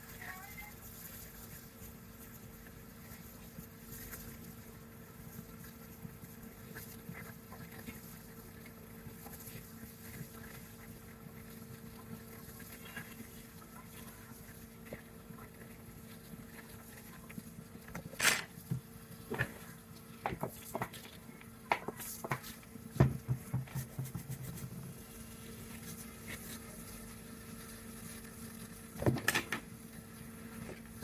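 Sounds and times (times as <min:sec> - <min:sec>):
faint electrical hum: 0:00.0 - 0:31.0.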